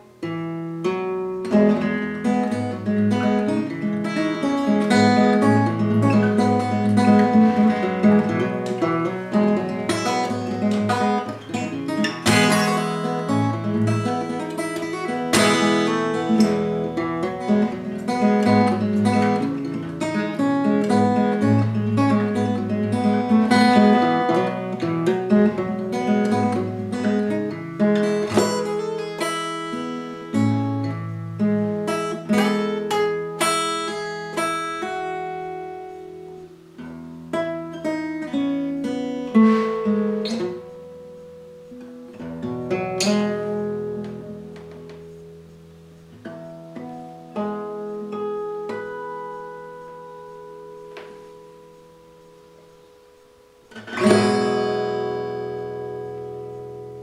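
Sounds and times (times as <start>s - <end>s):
fingerstyle acoustic guitar: 0.0s - 57.0s.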